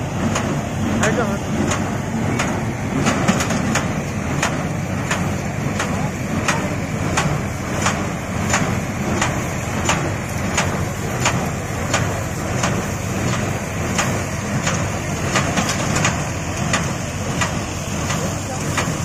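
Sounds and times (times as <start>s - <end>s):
baler mechanical drone: 0.0s - 19.0s.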